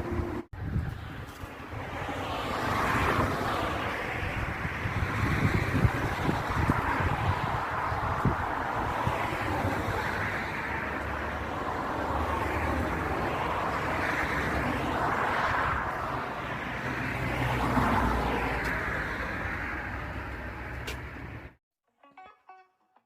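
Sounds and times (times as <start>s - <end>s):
low traffic rumble: 0.0s - 21.6s
vehicles passing: 0.0s - 21.6s.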